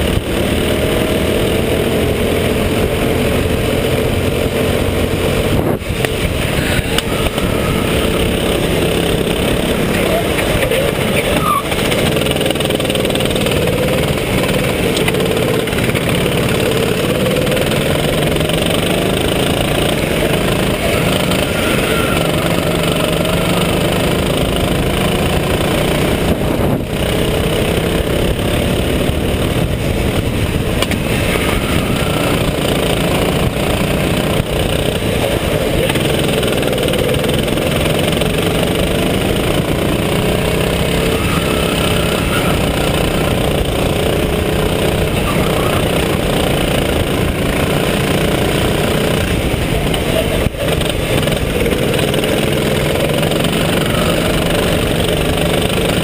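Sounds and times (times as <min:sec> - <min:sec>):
go-kart engine running hard: 0:00.0 - 0:56.0
wind and road noise: 0:00.0 - 0:56.0.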